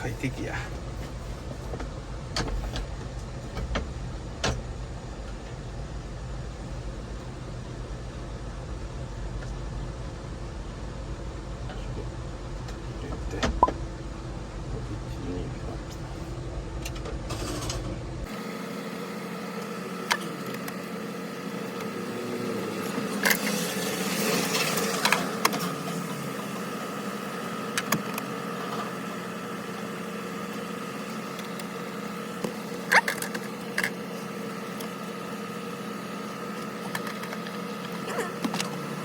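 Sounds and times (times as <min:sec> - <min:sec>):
air-conditioner blower hum: 0:00.0 - 0:39.0
engine idling: 0:00.0 - 0:39.0.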